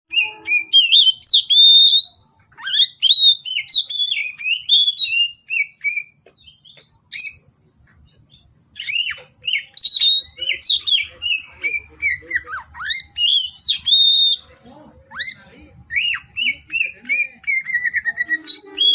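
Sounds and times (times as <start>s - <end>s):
bird singing whistled phrases: 0.1s - 18.9s.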